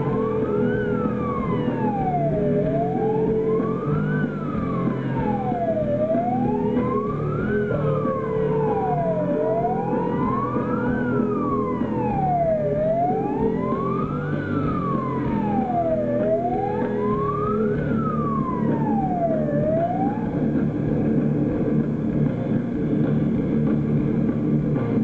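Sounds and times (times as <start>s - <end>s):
wailing siren: 0.0s - 21.9s
steady held drone: 0.0s - 25.0s.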